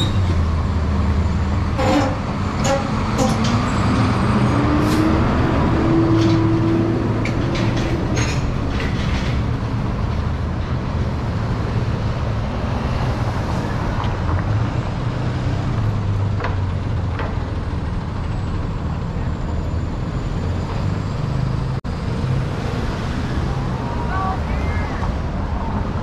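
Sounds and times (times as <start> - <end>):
city street traffic: 0.0 - 26.0
heavy vehicle engine hum: 0.0 - 26.0.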